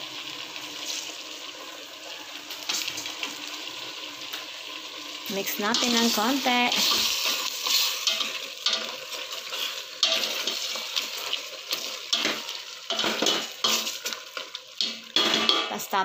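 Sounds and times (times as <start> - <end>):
food sizzling in pot: 0.0 - 16.0.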